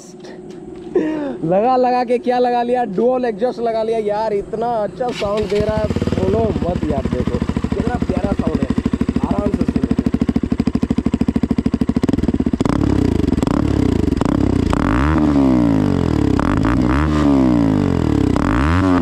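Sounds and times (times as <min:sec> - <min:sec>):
motorcycle engine idling and revving: 0:01.8 - 0:19.0.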